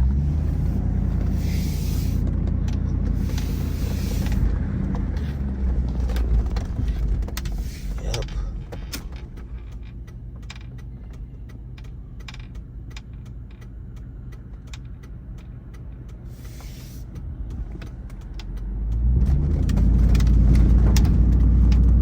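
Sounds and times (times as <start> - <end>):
truck engine: 0.0 - 22.0.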